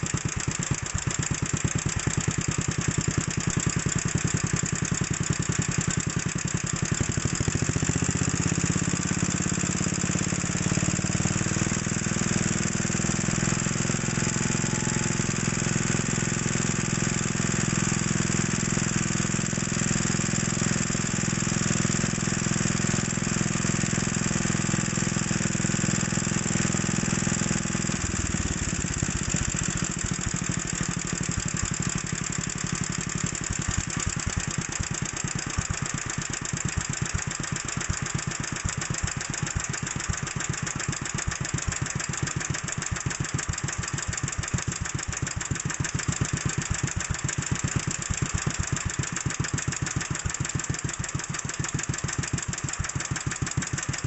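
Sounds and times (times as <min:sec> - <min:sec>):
stationary engine idling: 0:00.0 - 0:54.0.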